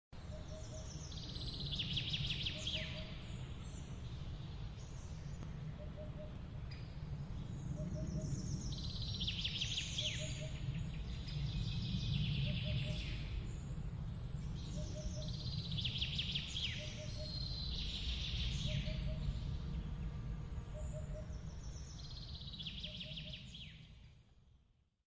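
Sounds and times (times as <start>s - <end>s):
songbird chirping trills: 0.2s - 24.3s
steady low rumble: 0.2s - 24.5s.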